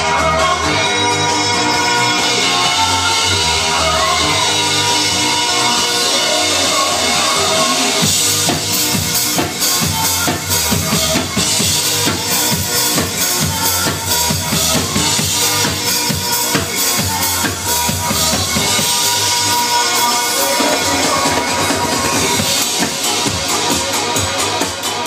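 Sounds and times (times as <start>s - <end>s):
electronic dance music: 0.0s - 25.0s
fast drum kit hits: 4.2s - 25.0s.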